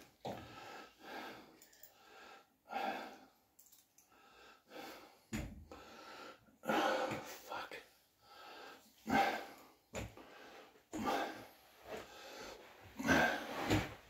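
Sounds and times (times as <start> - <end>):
man breathing heavily: 0.2 - 3.5, 4.1 - 14.0.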